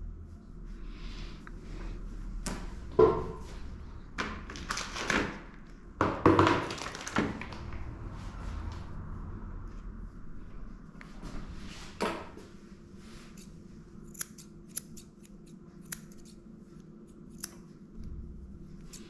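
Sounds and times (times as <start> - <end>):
low steady background hum: 0.0 - 19.0.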